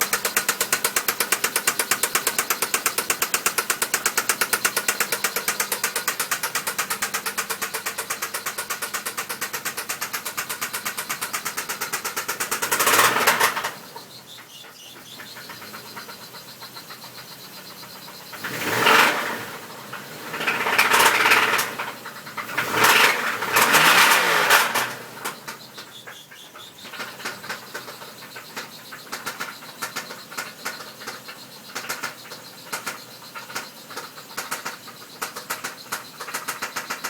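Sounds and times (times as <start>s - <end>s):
car engine revving and idling: 0.0s - 14.4s, 15.0s - 26.1s, 26.8s - 37.0s
engine knocking: 0.0s - 37.0s.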